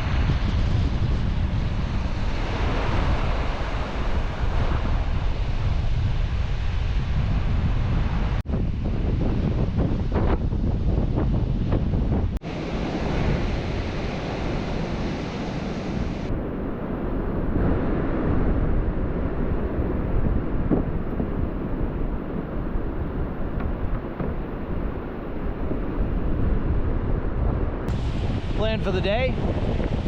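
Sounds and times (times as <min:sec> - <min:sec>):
ocean surf washing: 0:00.0 - 0:30.0
wind buffeting microphone: 0:00.0 - 0:30.0.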